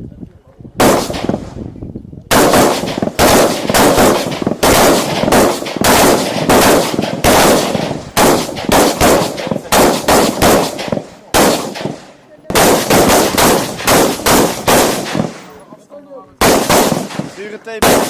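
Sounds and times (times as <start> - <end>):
rifle shots with echo: 0.8 - 1.7, 2.3 - 15.6, 16.4 - 18.0.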